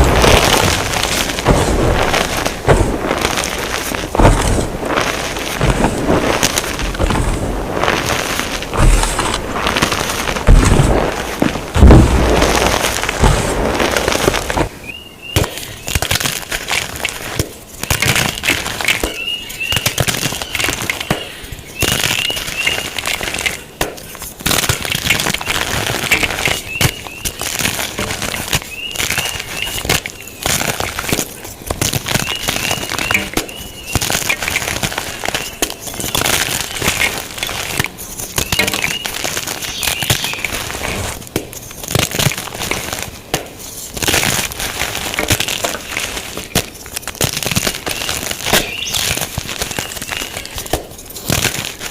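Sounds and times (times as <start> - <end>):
chalk being crushed: 0.0 - 51.9.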